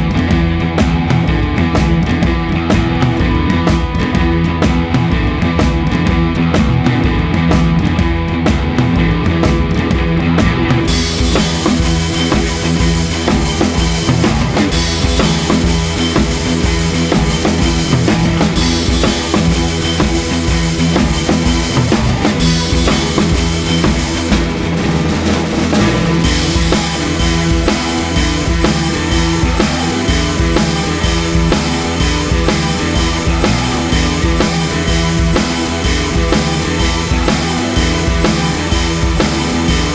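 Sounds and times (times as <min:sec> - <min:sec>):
rock music with drums and guitar: 0:00.0 - 0:39.9.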